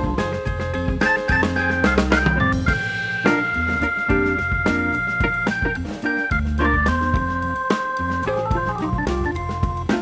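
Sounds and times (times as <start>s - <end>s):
bass line: 0.0s - 10.0s
drum beat: 0.0s - 10.0s.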